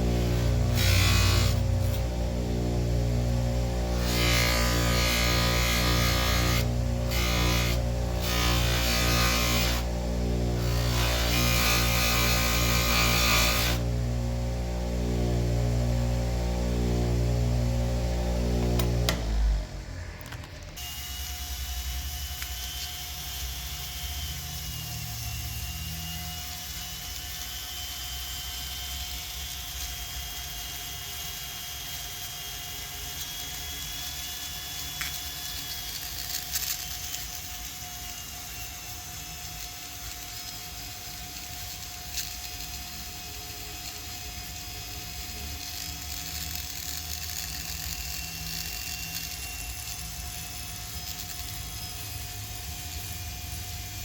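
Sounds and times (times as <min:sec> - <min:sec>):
small motor running: 0:00.0 - 0:54.0.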